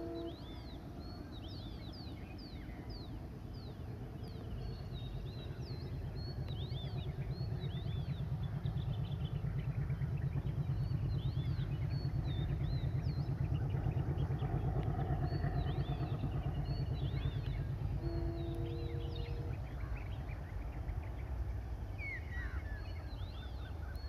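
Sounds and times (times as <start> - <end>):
birds chirping: 0.0 - 24.0
diesel locomotive engine throbbing: 0.0 - 24.0.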